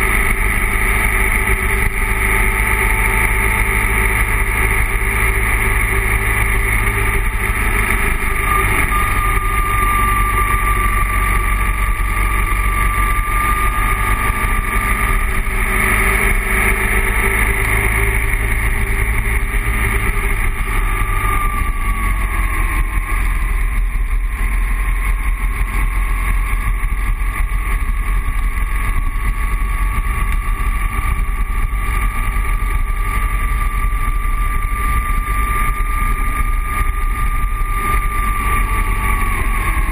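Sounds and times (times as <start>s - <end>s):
motorcycle engine running: 0.0s - 39.9s
thin whine: 0.0s - 39.9s.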